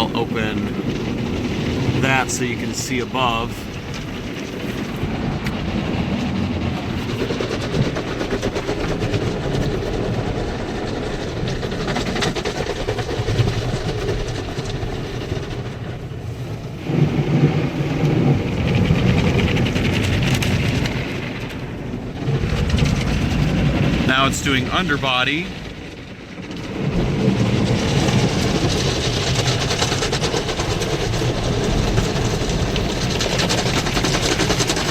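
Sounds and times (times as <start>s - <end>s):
car wash water spray and machinery: 0.0s - 34.9s.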